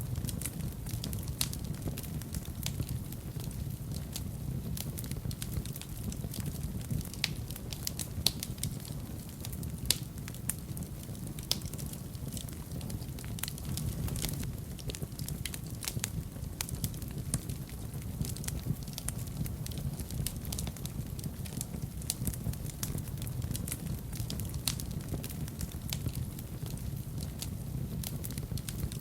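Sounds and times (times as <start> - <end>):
fire crackling and popping: 0.0 - 29.0
fire rumbling in a fireplace: 0.0 - 29.0.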